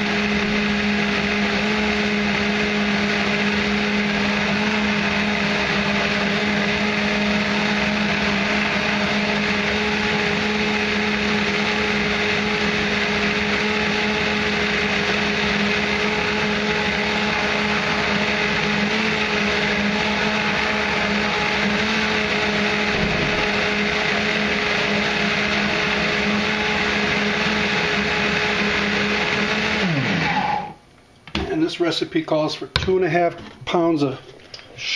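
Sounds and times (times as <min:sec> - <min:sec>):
blender running: 0:00.0 - 0:30.8.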